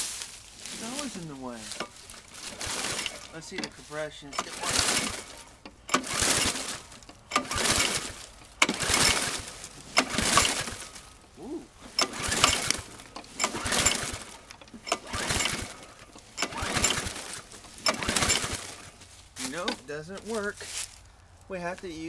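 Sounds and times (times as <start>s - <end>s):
lawnmower recoil starter pulls: 0.0s - 21.0s.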